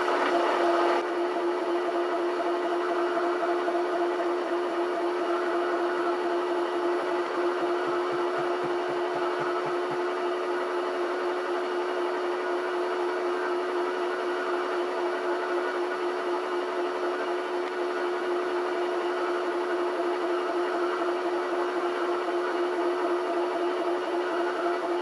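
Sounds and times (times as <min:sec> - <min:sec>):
milling machine motor hum: 0:00.0 - 0:25.0.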